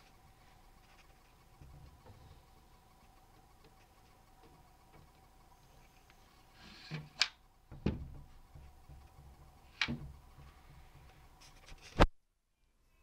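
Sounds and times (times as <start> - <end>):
wood rubbing: 0.0 - 12.0.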